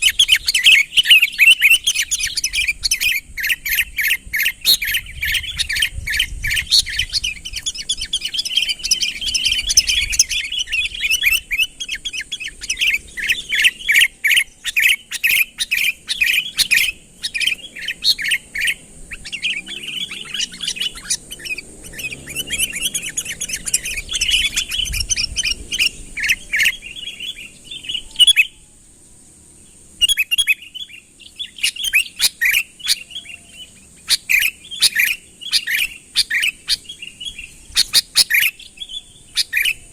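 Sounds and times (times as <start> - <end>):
bird chirping rapidly: 0.0 - 28.6, 29.6 - 39.9.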